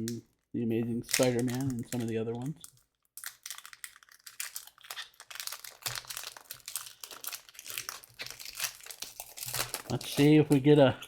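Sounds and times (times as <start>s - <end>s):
foil wrapper crinkling: 1.0s - 10.8s.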